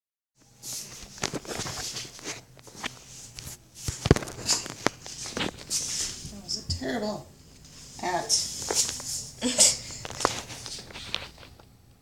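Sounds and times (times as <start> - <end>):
footsteps: 0.4 - 6.9, 7.5 - 11.6.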